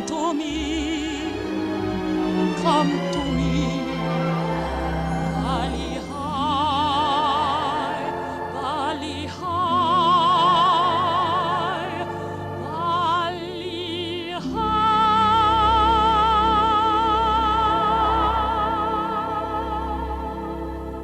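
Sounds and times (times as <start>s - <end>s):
operatic singing: 0.0s - 21.0s
orchestral music: 0.0s - 21.0s.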